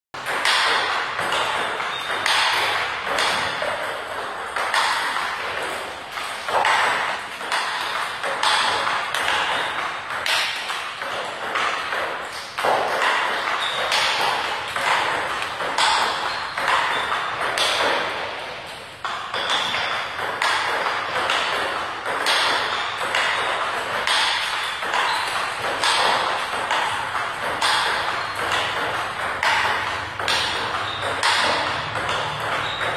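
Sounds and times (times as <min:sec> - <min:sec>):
table tennis ball hits: 0:00.2 - 0:32.9.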